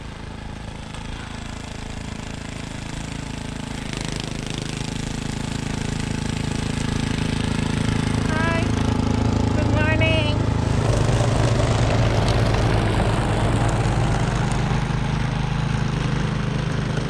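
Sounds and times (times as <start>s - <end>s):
engine running with pulsing beat: 0.0s - 17.0s.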